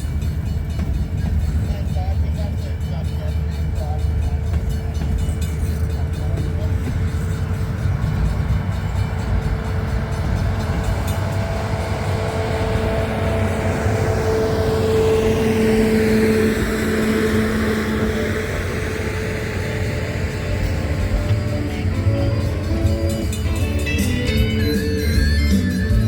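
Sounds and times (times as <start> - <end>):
humming tone: 0.0 - 26.0
train wheels rumbling on rails: 0.0 - 26.0.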